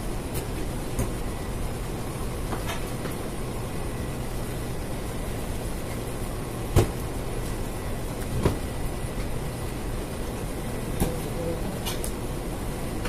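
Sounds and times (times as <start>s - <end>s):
kitchen machinery humming: 0.0s - 13.0s.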